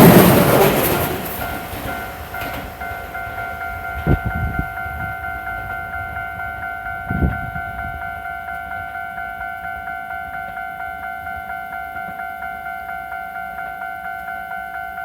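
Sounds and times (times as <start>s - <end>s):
level crossing warning bell: 0.0s - 15.0s
passing train rumble: 0.0s - 15.0s.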